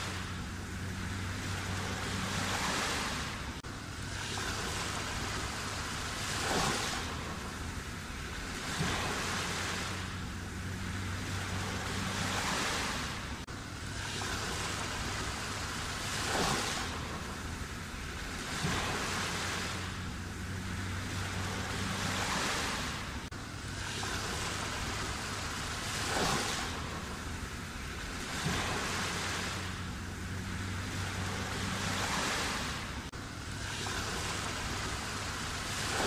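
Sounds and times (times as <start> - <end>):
wash of surf: 0.0 - 36.0
waves crashing: 0.0 - 36.0.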